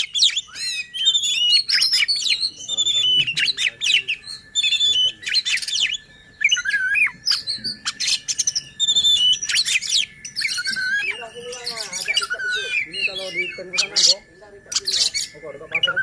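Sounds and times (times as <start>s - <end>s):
songbird singing whistles and chirps: 0.0s - 16.0s.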